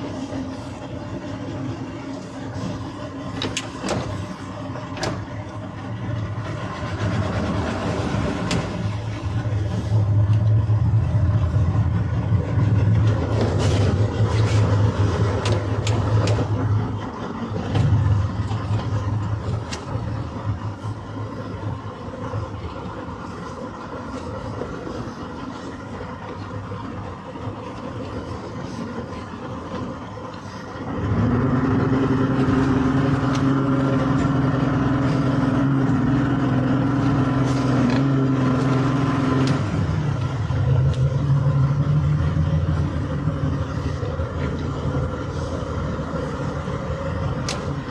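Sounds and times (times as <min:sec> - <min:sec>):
outboard motor rumbling: 0:00.0 - 0:47.9.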